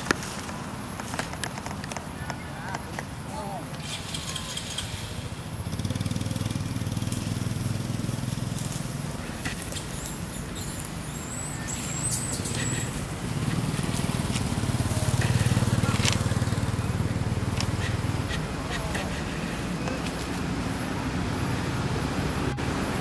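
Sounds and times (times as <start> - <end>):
engine pulsing rumble: 3.9 - 23.0.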